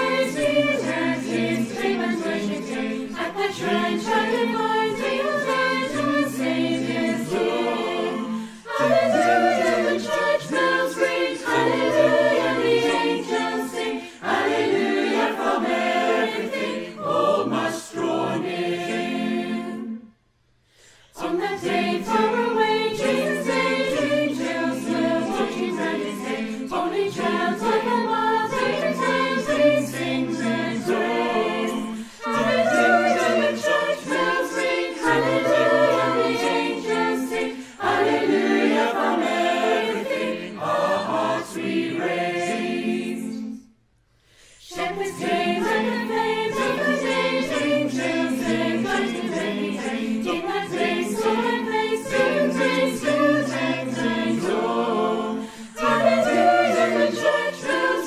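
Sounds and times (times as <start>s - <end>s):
mixed choir singing in harmony: 0.0s - 20.2s, 20.8s - 58.0s.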